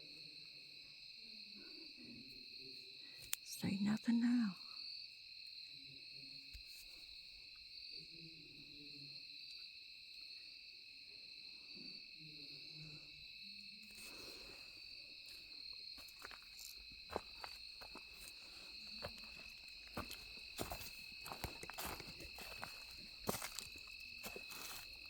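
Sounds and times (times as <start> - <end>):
night insects trilling: 0.0 - 25.0.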